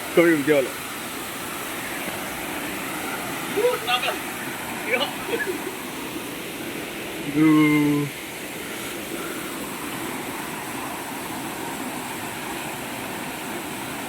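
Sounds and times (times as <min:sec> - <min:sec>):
waterfall and rushing river: 0:00.0 - 0:14.0.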